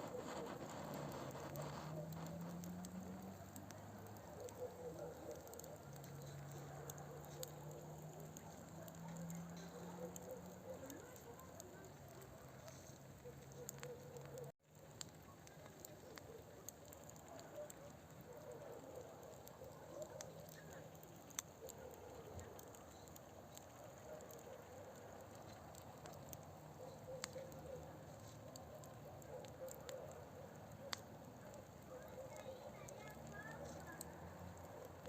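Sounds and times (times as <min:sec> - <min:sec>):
burning wood crackling and popping: 0:00.0 - 0:35.0
faint flame noise: 0:00.0 - 0:35.0.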